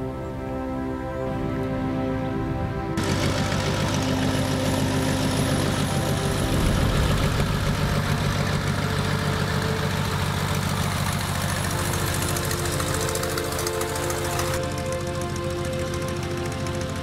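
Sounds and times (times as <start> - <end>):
radial aircraft engine running: 0.0 - 17.0.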